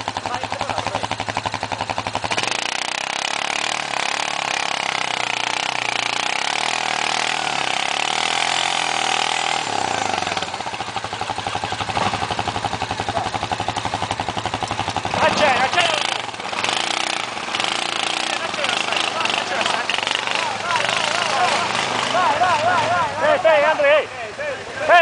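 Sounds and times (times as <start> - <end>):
quad engine revving: 0.0 - 25.0.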